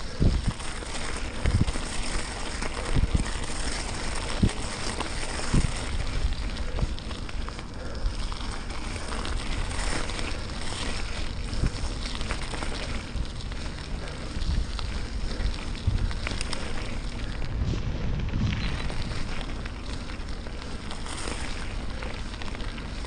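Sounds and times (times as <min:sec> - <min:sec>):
wind buffeting microphone: 0:00.0 - 0:07.2, 0:09.1 - 0:23.0
bicycle tyres crunching on gravel: 0:00.0 - 0:23.0.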